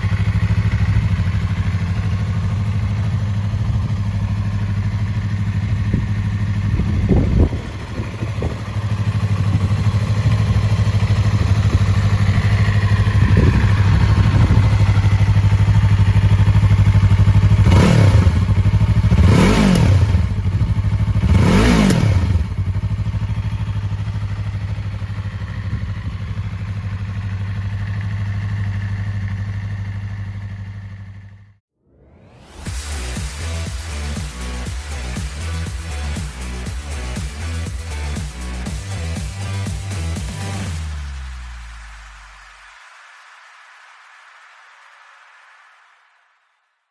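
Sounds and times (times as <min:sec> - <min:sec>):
motorcycle engine idling and revving: 0:00.0 - 0:31.6, 0:32.5 - 0:42.3.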